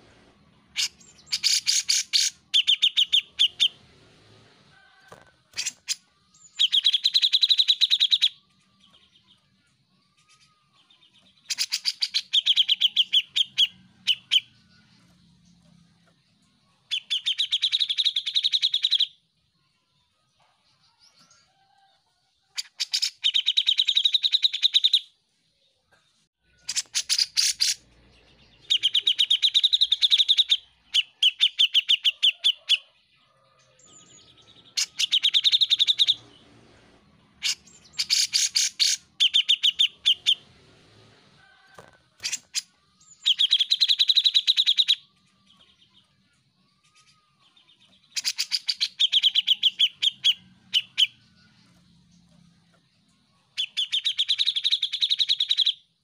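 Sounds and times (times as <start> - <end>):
bird singing rapid repeated notes: 0.4 - 3.9, 5.5 - 19.3, 22.5 - 25.1, 26.5 - 32.9, 33.8 - 36.4, 37.3 - 40.6, 42.2 - 56.0.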